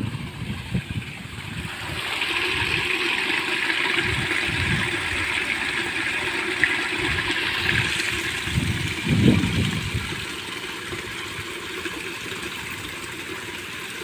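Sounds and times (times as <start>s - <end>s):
water rushing through a pipe: 0.0s - 14.0s.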